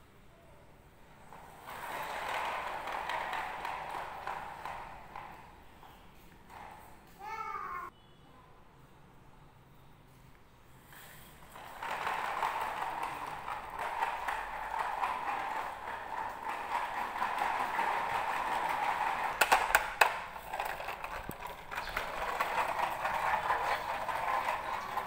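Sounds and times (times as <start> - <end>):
plastic wheels rolling on tile: 1.0 - 7.4, 10.8 - 25.0.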